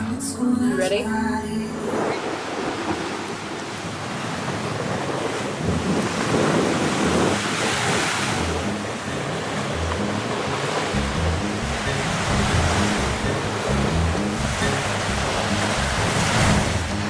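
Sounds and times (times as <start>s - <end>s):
surf breaking on shore: 1.6s - 17.0s
wind on microphone: 1.6s - 17.0s.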